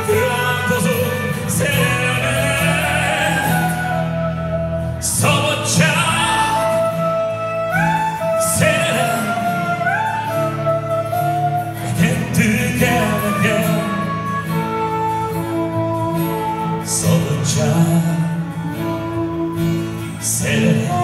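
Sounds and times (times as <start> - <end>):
acoustic guitars playing chords: 0.0 - 21.0
saxophone melody: 0.0 - 21.0.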